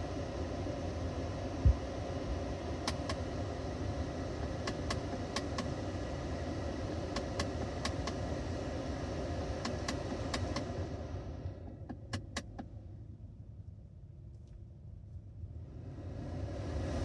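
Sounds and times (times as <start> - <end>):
running car hum: 0.0 - 17.0.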